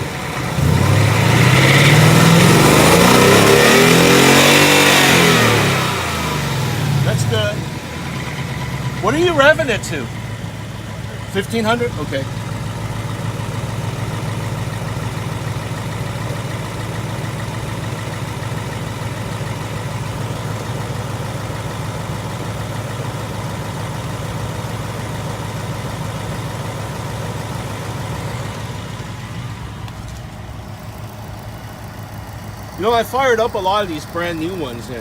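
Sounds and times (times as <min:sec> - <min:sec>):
car engine idling smoothly: 0:00.0 - 0:35.0.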